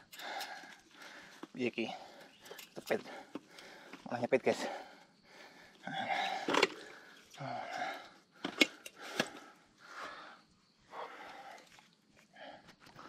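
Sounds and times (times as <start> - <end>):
heavy ragged breathing: 0.0 - 13.0.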